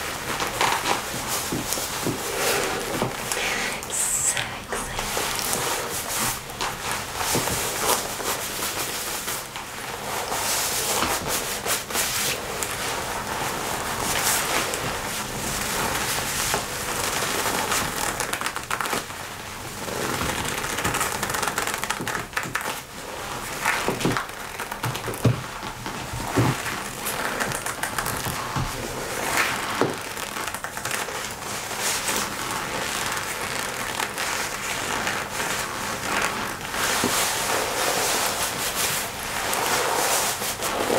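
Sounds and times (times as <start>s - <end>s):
leather jacket rustling and creaking: 0.0s - 3.4s, 4.4s - 40.9s.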